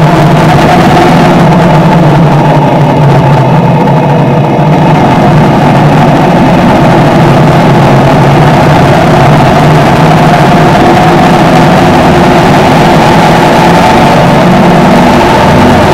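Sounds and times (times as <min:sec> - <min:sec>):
motorcycle engine running: 0:00.0 - 0:15.9
wind and road noise: 0:00.0 - 0:15.9.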